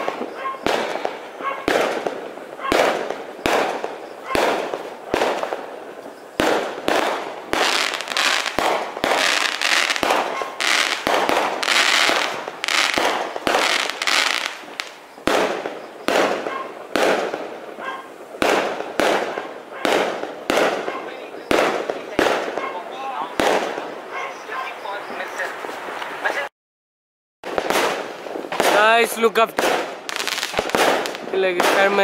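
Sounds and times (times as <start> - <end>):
fireworks bangs: 0.0 - 26.4, 27.4 - 32.0
fireworks crackling: 0.0 - 26.5, 27.4 - 32.0.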